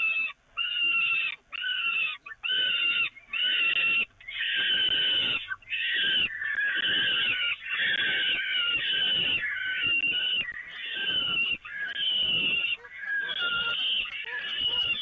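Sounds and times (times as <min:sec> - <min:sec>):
falcon chicks begging calls: 0:00.0 - 0:15.0.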